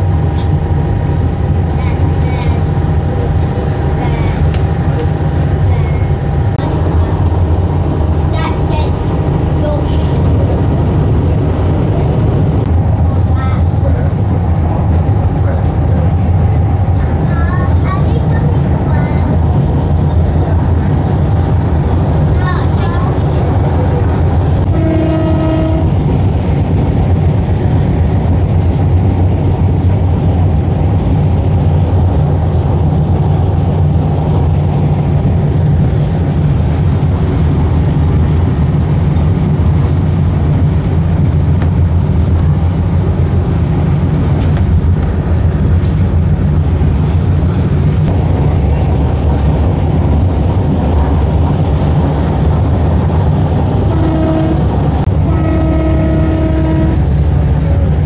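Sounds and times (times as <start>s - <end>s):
diesel railcar rumble: 0.0s - 58.0s.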